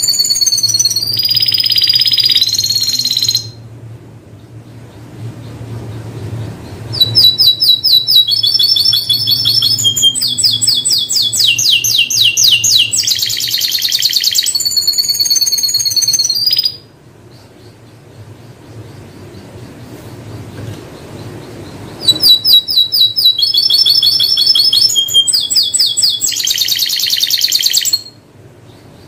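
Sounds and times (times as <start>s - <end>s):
canary singing rapid trills: 0.0s - 29.0s
faint low hum: 0.0s - 29.0s.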